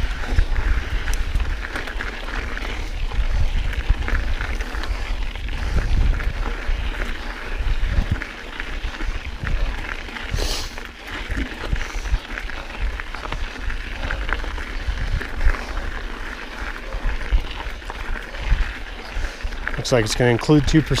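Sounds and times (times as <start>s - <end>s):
bike tyres on dirt and rock: 0.0s - 21.0s.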